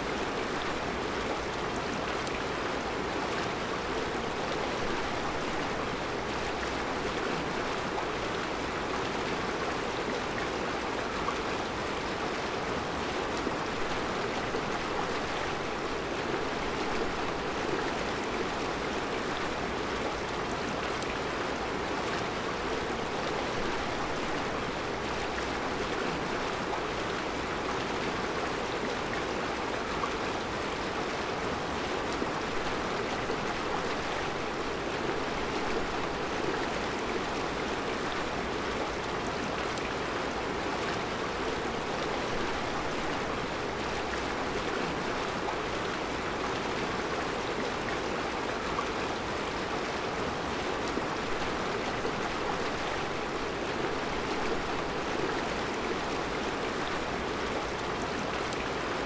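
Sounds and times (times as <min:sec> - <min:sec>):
river flowing over rocks: 0:00.0 - 0:59.0.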